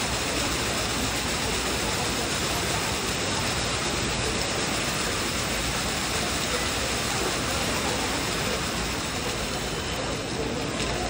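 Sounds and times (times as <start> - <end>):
water fountain running: 0.0 - 11.0.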